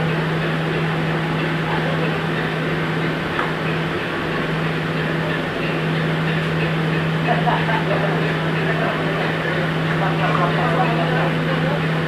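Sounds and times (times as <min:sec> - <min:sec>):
ship machinery droning: 0:00.0 - 0:12.0.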